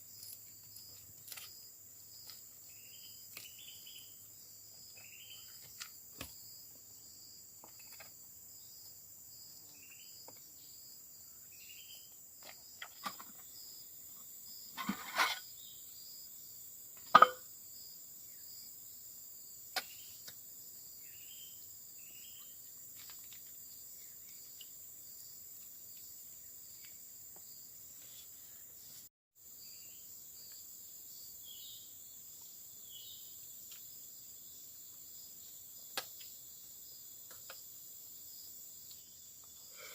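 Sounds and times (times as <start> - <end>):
chorus of crickets: 0.0 - 39.9.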